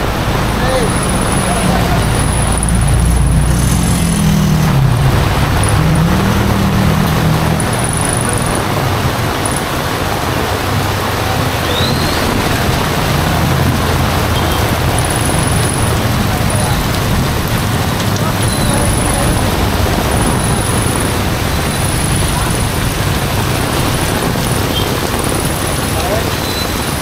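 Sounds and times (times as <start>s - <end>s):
heavy rain pouring: 0.0s - 27.0s
vehicle engine passing: 0.0s - 27.0s.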